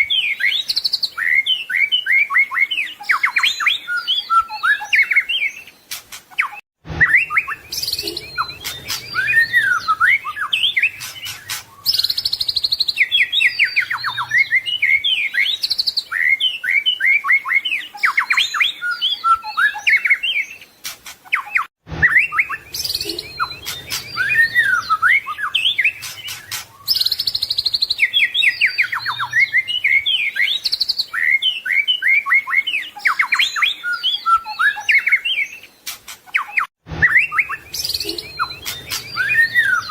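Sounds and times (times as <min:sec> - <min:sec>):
bird singing varied whistles and trills: 0:00.0 - 0:39.9.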